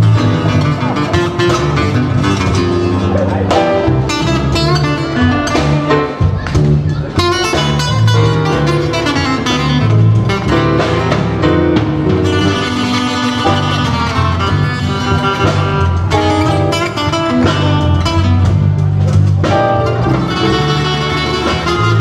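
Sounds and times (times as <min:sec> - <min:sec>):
acoustic guitar: 0:00.0 - 0:22.0
drums: 0:00.0 - 0:22.0
electric bass: 0:00.0 - 0:22.0
keyboard: 0:00.0 - 0:22.0.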